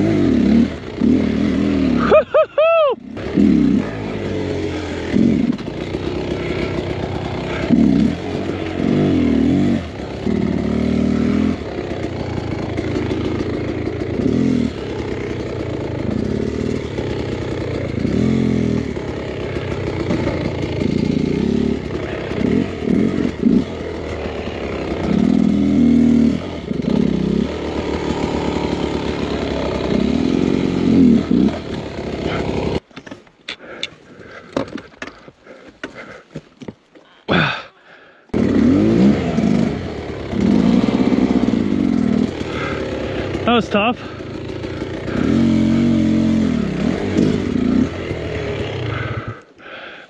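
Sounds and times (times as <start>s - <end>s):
dirt bike engine revving: 0.0s - 32.9s, 38.3s - 50.0s.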